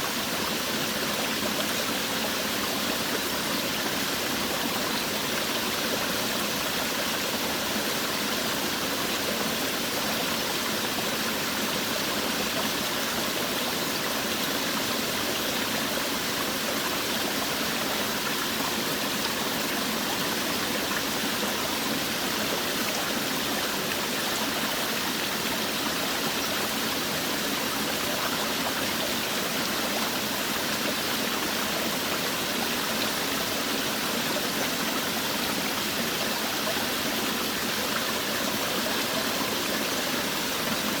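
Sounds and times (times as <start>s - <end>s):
waterfall pouring and splashing: 0.0s - 41.0s.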